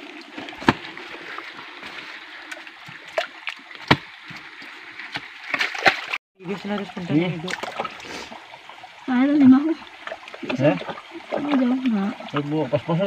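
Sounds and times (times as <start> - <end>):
creek water running over rocks: 0.0 - 13.0
sharp knocks or splashes: 0.3 - 8.4, 9.3 - 12.7.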